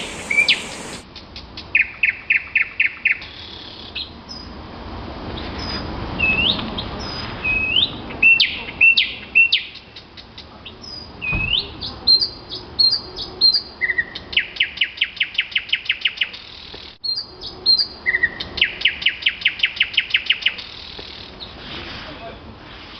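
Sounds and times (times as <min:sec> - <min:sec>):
songbird singing: 0:00.0 - 0:04.6, 0:05.4 - 0:21.6.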